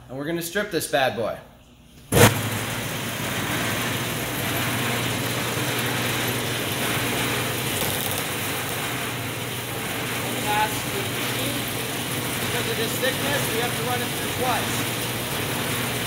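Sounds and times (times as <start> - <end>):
motor and feed rollers humming: 2.1 - 16.0.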